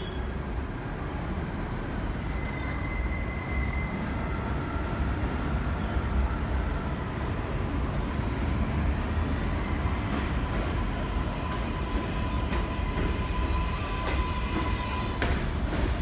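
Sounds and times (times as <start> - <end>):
train rumbling on the track: 0.0 - 16.0
train high whine: 2.1 - 16.0.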